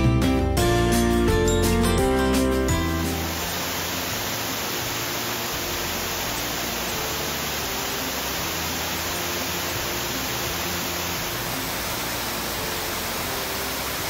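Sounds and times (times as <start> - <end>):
guitar music: 0.0 - 13.8
waterfall rushing over rock: 2.7 - 14.0.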